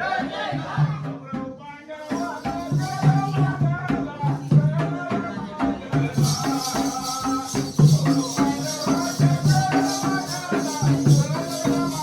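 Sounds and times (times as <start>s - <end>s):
jingling percussion: 1.0s - 12.0s
person singing: 1.8s - 12.0s
hand drum beat: 2.1s - 12.0s.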